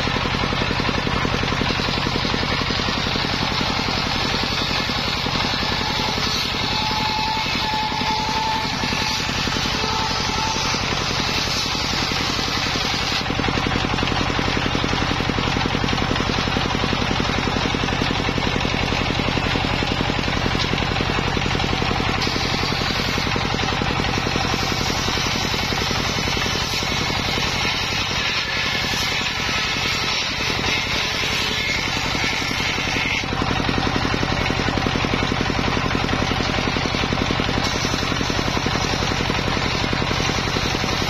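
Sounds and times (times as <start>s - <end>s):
circular saw cutting bamboo: 0.0s - 41.0s.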